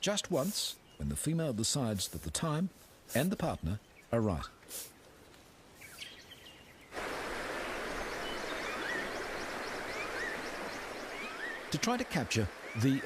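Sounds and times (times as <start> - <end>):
water and forest ambience: 0.0 - 13.0.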